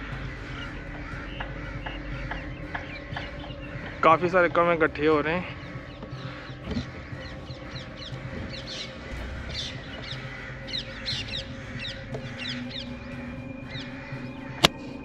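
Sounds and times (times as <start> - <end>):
crows calling: 0.0 - 15.0.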